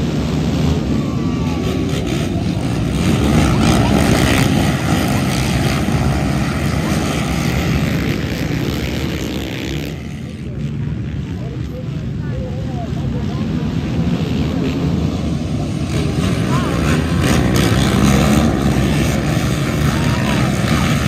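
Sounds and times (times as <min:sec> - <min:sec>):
racing quad engines revving: 0:00.0 - 0:21.0.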